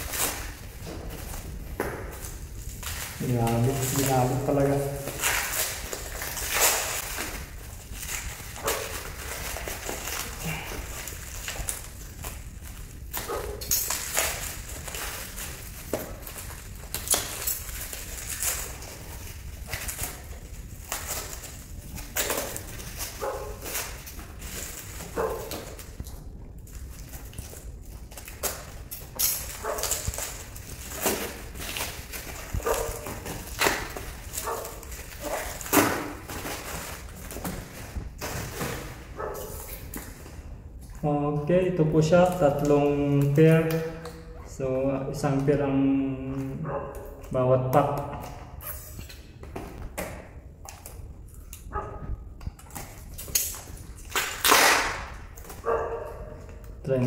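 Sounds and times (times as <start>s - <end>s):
plastic wrapping crinkling and tearing: 0.0s - 57.0s.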